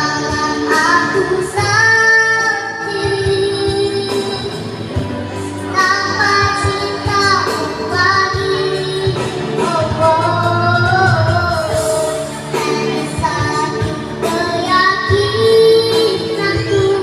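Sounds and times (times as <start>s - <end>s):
child singing: 0.0s - 5.0s, 5.6s - 17.0s
musical accompaniment: 0.0s - 17.0s.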